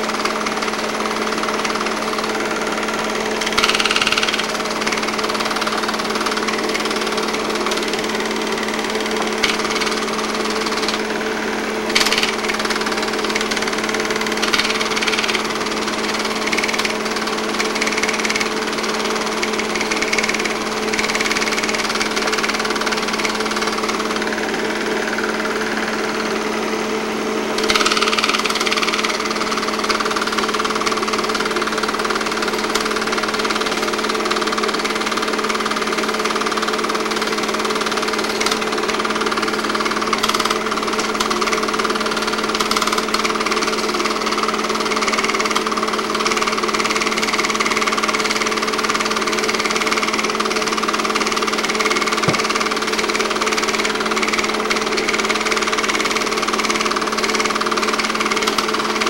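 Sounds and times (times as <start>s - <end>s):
film transport mechanical rattle: 0.0s - 26.4s, 27.6s - 59.0s
projector motor hum: 0.0s - 34.2s, 37.9s - 56.1s.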